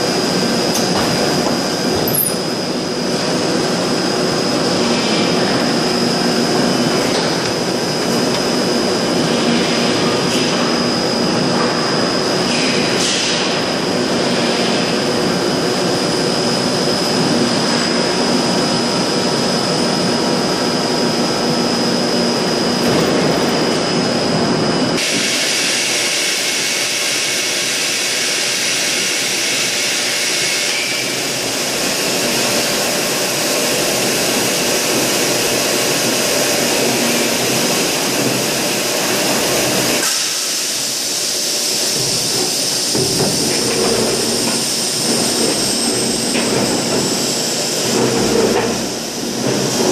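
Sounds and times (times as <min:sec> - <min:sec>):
constant high whine: 0:00.0 - 0:49.9
loud machinery noise: 0:00.0 - 0:49.9.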